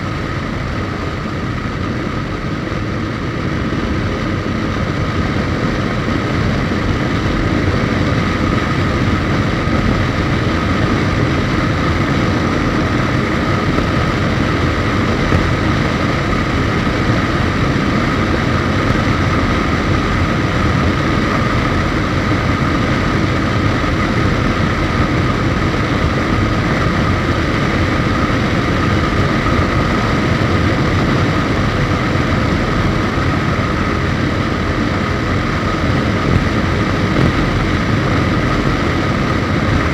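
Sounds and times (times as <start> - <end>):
wind and road noise: 0.0 - 39.9
motorcycle engine cruising: 2.9 - 39.9.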